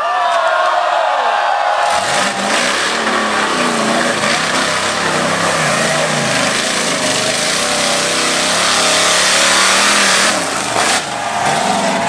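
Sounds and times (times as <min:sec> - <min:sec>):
off-road truck engine revving: 0:01.8 - 0:12.0.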